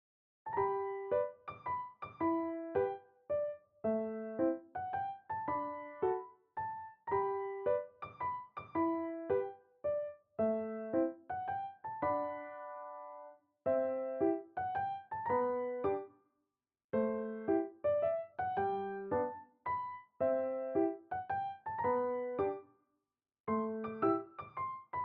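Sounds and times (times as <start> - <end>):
gentle piano melody: 0.5 - 16.2, 17.0 - 22.7, 23.5 - 25.0.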